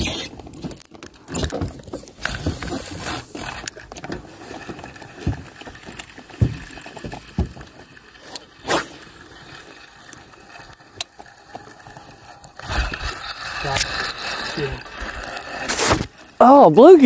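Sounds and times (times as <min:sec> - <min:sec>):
fishing reel clicking: 0:00.0 - 0:00.4, 0:02.2 - 0:17.0.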